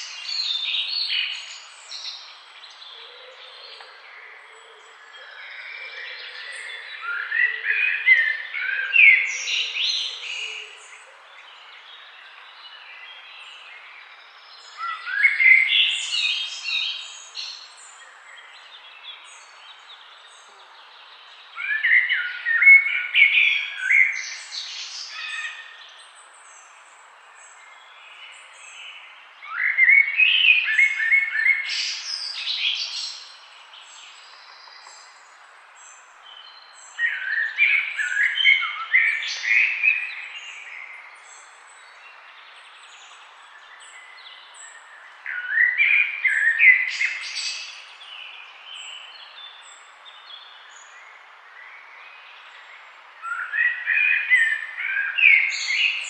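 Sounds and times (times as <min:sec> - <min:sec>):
faint background hiss: 0:00.0 - 0:56.0
songbird singing: 0:00.0 - 0:56.0.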